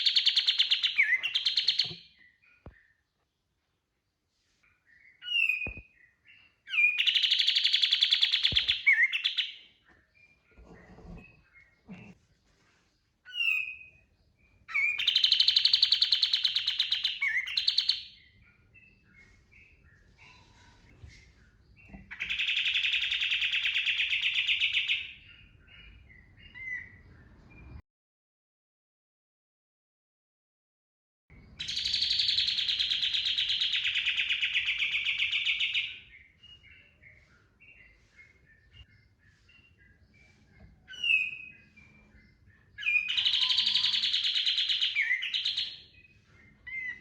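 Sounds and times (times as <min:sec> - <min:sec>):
bird chirps and rattling song: 0:00.0 - 0:03.8, 0:04.5 - 0:27.7, 0:31.4 - 0:47.0.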